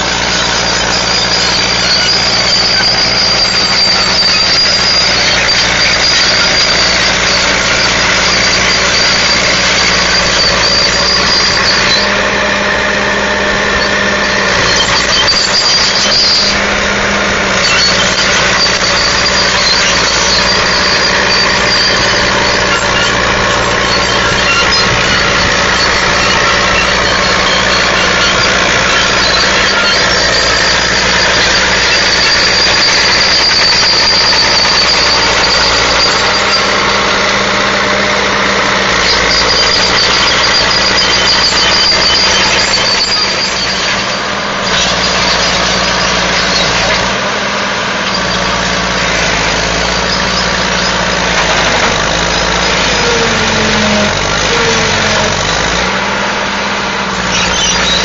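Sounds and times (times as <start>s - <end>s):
high-pitched whine: 0.0s - 47.2s
diesel engine running: 0.0s - 58.0s.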